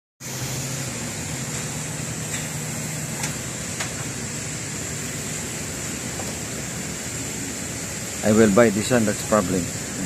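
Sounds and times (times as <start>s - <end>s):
engine running with high whine: 0.2s - 10.0s.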